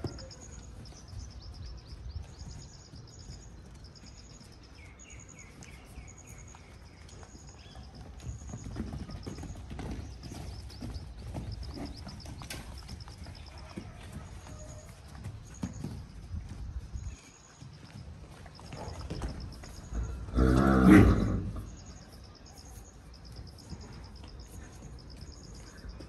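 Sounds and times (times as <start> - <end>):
horse hooves clopping: 0.0 - 26.0.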